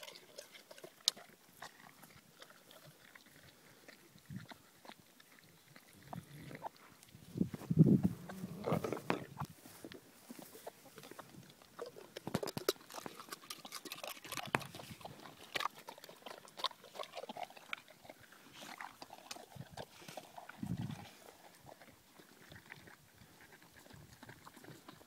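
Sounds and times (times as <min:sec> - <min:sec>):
dog chewing and lip-smacking: 0:00.0 - 0:09.5, 0:10.3 - 0:25.0.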